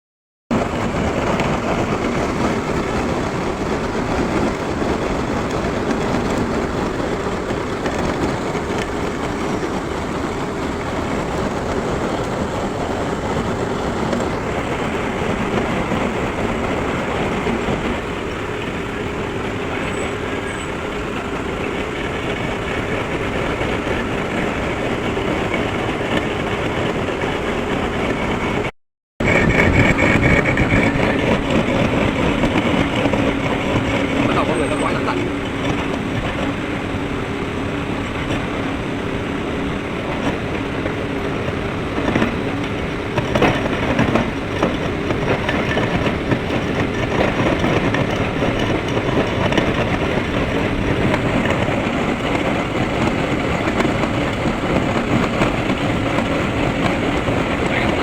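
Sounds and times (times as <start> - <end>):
metal lathe running: 0.5 - 58.0.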